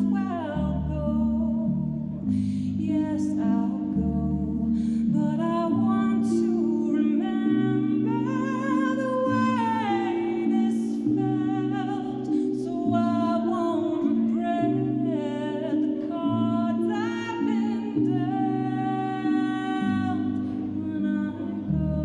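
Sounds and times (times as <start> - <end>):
woman singing into a microphone: 0.0 - 22.0.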